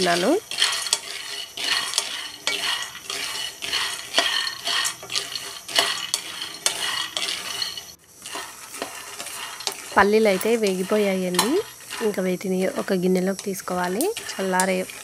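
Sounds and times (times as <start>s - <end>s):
nuts rattling and scraping in pan: 0.0s - 15.0s.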